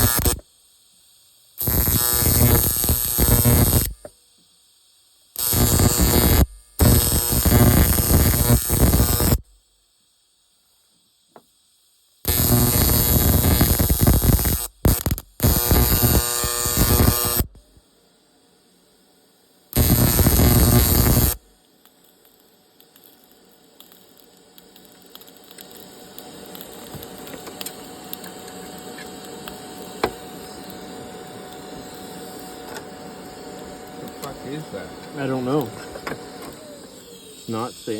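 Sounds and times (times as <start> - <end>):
welder arc crackling and buzzing: 0.0 - 9.8, 11.4 - 18.0, 18.9 - 37.9
quiet steady noise: 0.0 - 37.9
steady electrical hum: 0.0 - 37.9.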